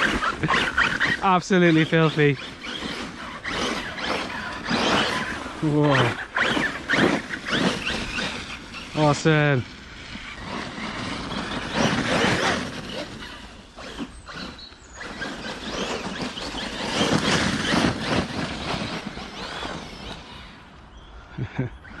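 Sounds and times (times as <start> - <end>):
toy truck motor whine: 0.0 - 20.8
tyres churning in snow: 0.0 - 22.0.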